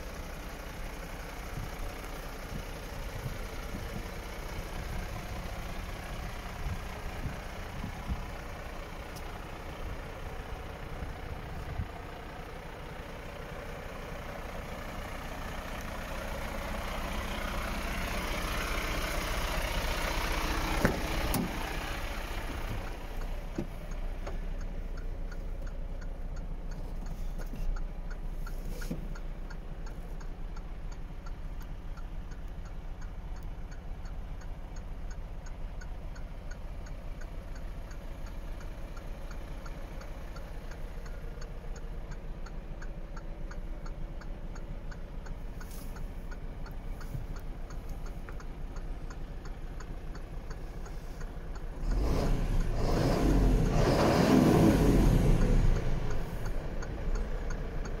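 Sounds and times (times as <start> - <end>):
diesel engine idling and revving: 0.0 - 58.0
light regular ticking: 0.0 - 58.0.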